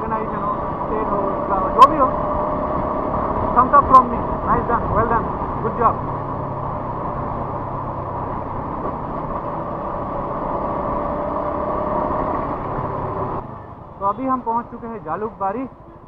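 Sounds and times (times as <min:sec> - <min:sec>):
rushing wind noise: 0:00.0 - 0:13.4
motorcycle engine hum: 0:00.0 - 0:16.0.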